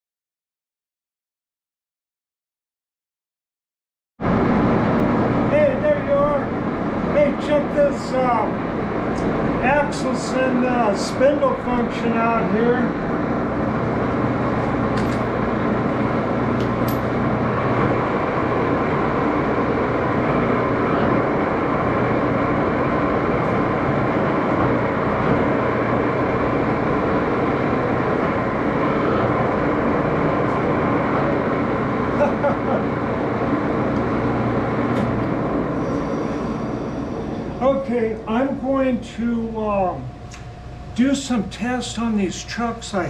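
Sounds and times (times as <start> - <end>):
lathe running: 4.3 - 43.0.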